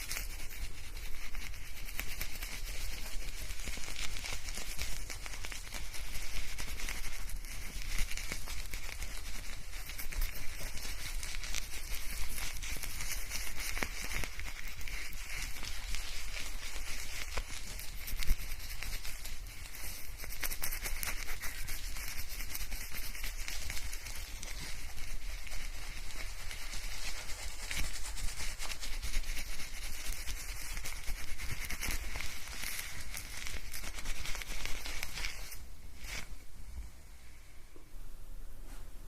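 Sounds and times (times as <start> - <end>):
shampoo lather crackling in hair: 0.0 - 36.3.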